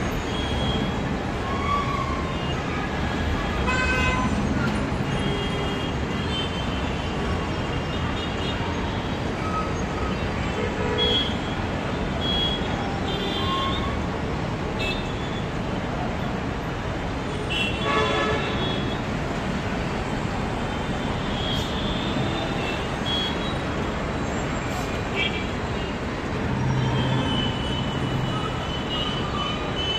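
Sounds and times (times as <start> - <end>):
road traffic noise: 0.0 - 29.9.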